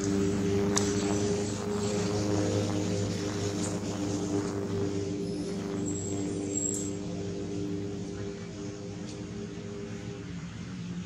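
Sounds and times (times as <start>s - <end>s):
mechanical drone: 0.0s - 11.0s.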